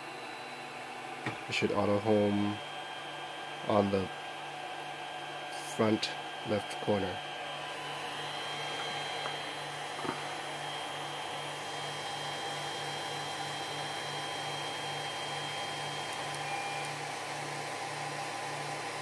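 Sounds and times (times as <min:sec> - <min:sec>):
thin steady whines: 0:00.0 - 0:18.4
cooling fans whirring: 0:00.0 - 0:19.0.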